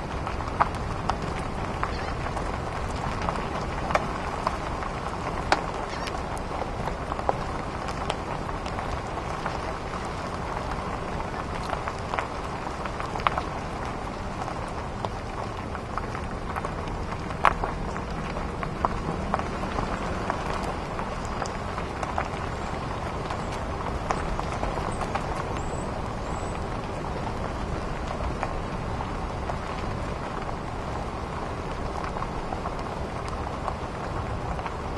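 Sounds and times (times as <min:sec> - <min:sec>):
gravel clicking under wheels: 0:00.0 - 0:34.9
tyres rumbling on dirt road: 0:00.0 - 0:34.9.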